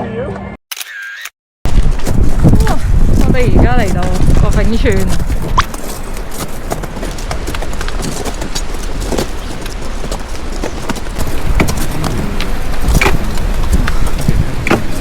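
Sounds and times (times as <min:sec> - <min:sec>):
footsteps crunching on ice: 0:01.7 - 0:15.0
wind rumble on microphone: 0:01.7 - 0:15.0.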